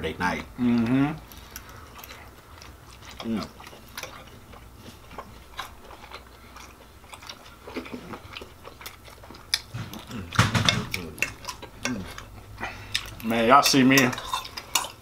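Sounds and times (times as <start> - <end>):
chewing: 0.3 - 15.0.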